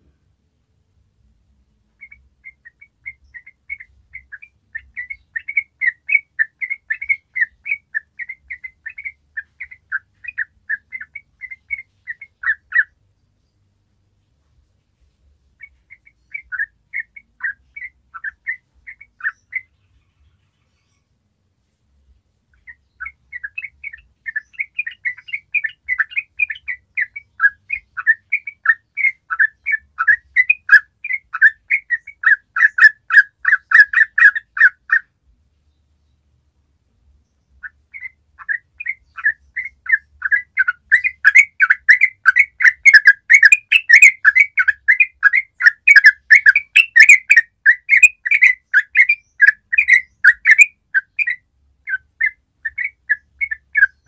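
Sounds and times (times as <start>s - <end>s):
bulbul chattering song: 1.9s - 13.7s, 15.6s - 21.1s, 22.5s - 35.2s, 37.1s - 54.0s.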